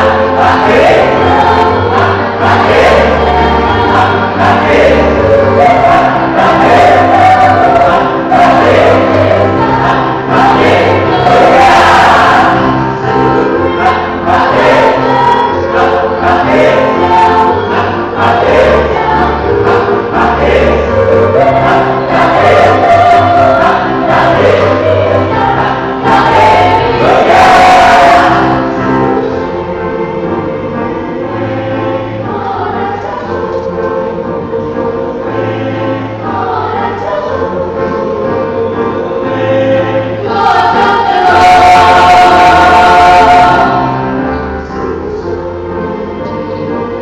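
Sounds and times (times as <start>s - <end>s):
choir singing sustained chords: 0.0s - 47.0s.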